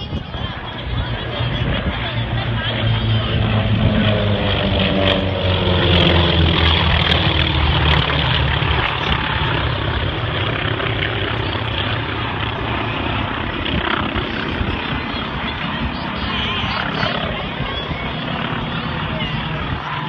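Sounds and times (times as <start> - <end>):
propeller planes droning: 0.0 - 20.0.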